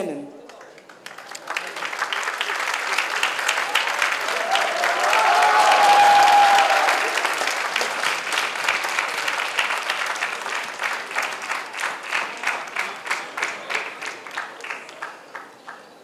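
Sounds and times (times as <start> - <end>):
audience applauding: 0.4 - 16.0.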